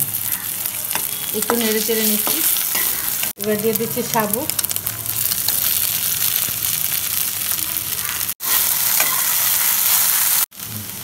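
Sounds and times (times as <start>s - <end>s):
pearls sizzling in hot ghee: 0.0s - 11.0s.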